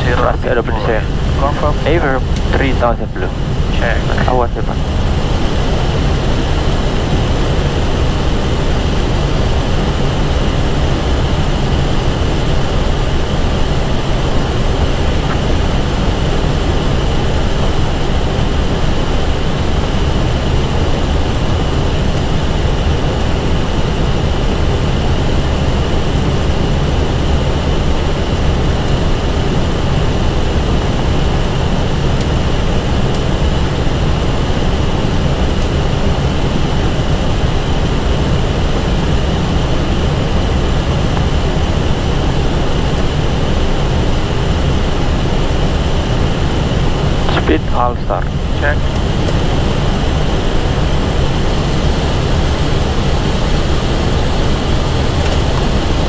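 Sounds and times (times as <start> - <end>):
engine drone: 0.0 - 56.0
steady high whine: 0.0 - 56.0.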